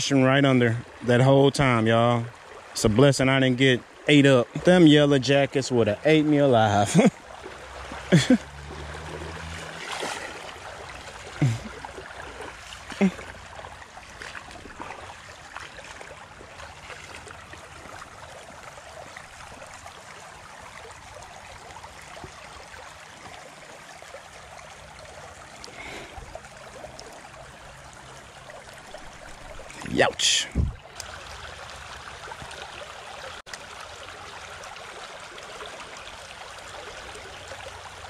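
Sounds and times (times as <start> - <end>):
creek water running: 0.0 - 38.0.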